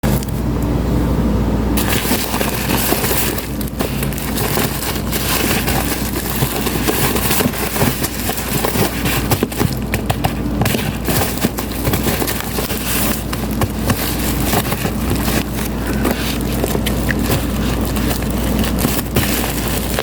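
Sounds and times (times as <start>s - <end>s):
packaging crackling and rustling: 0.0s - 0.4s, 1.8s - 20.0s
steady low hum: 0.0s - 20.0s.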